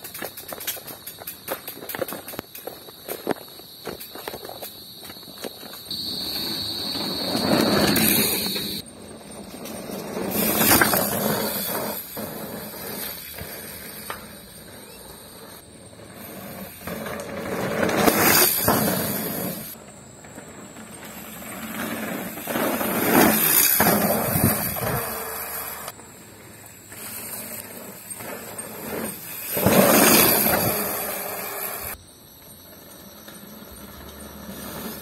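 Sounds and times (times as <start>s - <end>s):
bike tyres rushing on dirt: 0.0s - 35.0s.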